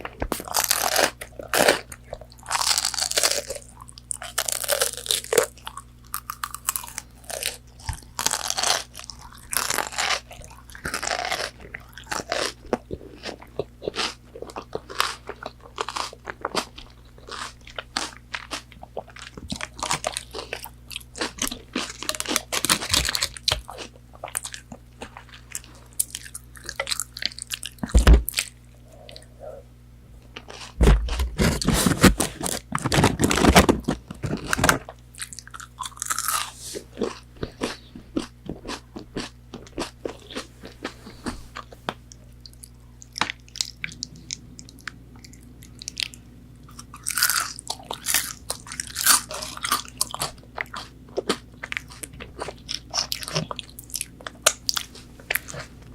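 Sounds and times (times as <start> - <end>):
crunching and chewing fried food: 0.0 - 29.6, 30.2 - 55.9.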